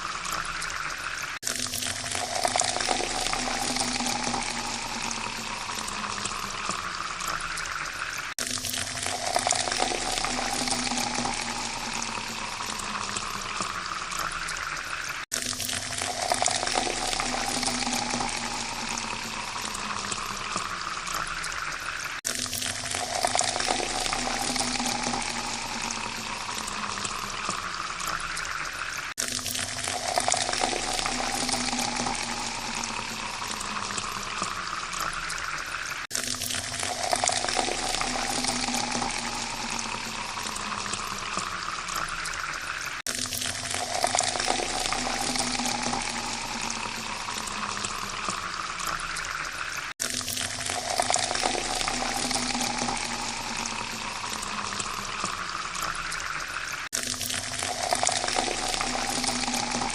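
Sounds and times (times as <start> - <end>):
water pouring into a glass: 0.0 - 59.9.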